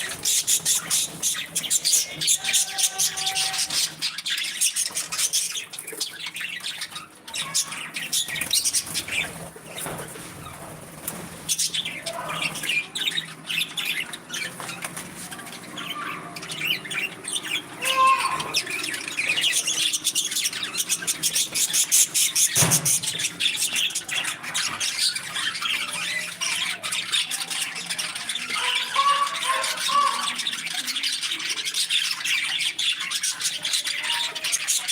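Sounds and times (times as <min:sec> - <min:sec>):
budgerigars chattering: 0:00.0 - 0:34.9.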